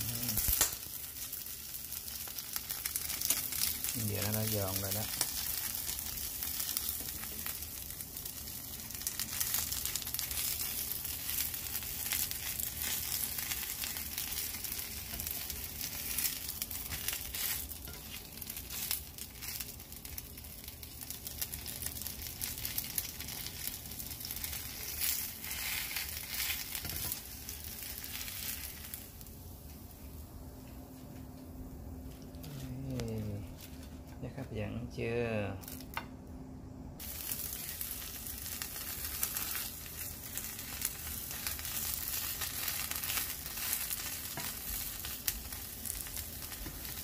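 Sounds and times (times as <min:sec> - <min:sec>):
crepe sizzling in oil: 0:00.0 - 0:30.3, 0:37.0 - 0:47.0.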